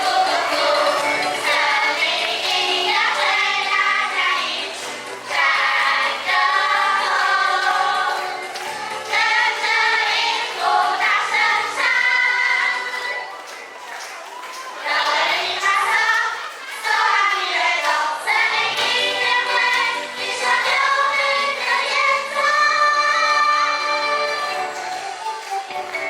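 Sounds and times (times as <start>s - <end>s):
group of voices singing: 0.0s - 13.5s, 14.6s - 25.0s
backing music: 0.0s - 26.0s.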